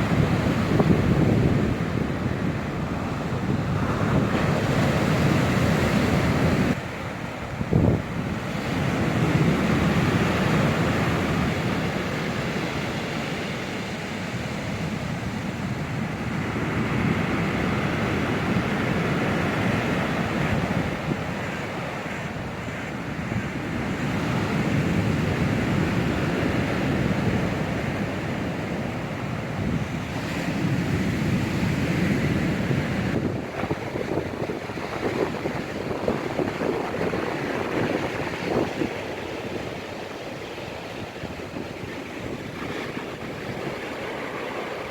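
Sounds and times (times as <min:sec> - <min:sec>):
surf breaking on shore: 0:00.0 - 0:44.9
wind rumbling on microphone: 0:00.0 - 0:44.9.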